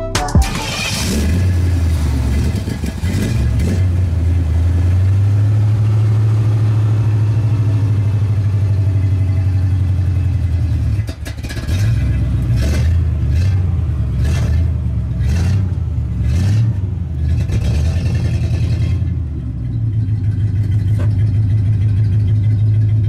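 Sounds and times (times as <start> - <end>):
car engine idling: 0.4 - 23.0.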